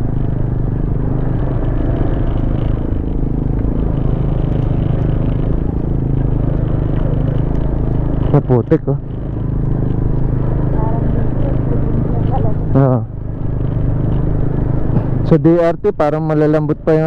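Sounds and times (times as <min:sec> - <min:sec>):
scooter engine running: 0:00.0 - 0:15.8.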